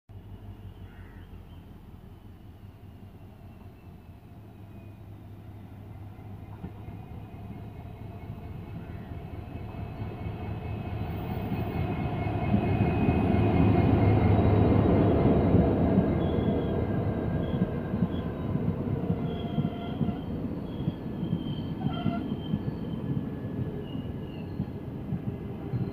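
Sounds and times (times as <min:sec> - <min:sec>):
locomotive engine drone: 0:00.1 - 0:25.9
coaches rolling on rails: 0:02.5 - 0:25.9.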